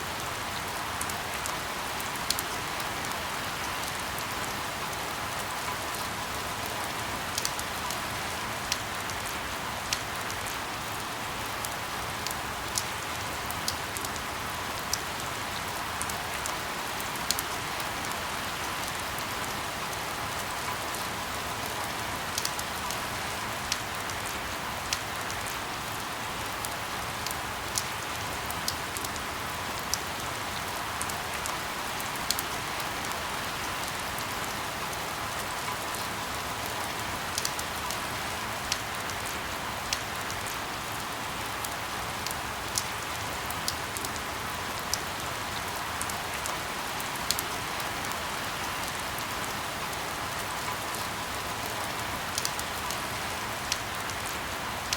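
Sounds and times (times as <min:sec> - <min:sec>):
rain falling on a surface: 0:00.0 - 0:54.9.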